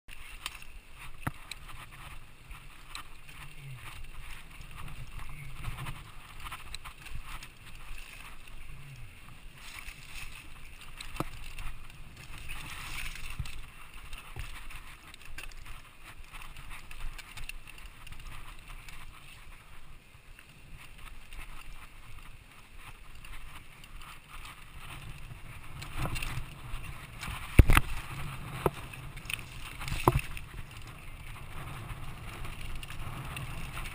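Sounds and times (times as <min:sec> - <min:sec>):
bike clicks and rattles: 0:00.1 - 0:33.9
bike tyres crunching over dirt: 0:00.1 - 0:33.9.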